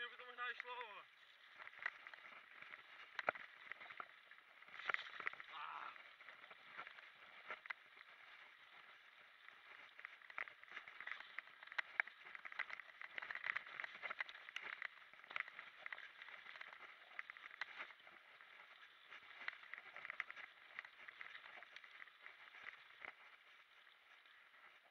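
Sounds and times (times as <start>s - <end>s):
bike rattling over rough ground: 0.0s - 24.9s
tyres rolling on dirt: 0.0s - 24.9s.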